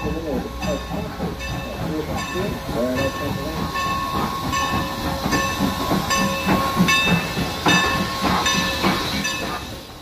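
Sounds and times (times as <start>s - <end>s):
locomotive bell ringing: 0.0s - 9.8s
steam hiss: 0.0s - 10.0s.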